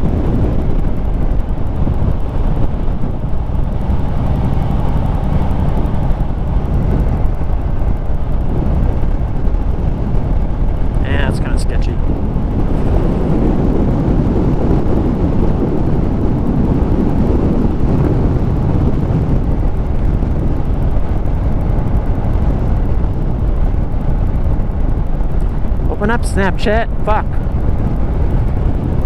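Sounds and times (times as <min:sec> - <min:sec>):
motorcycle running: 0:00.0 - 0:29.0
wind buffeting microphone: 0:00.0 - 0:29.0.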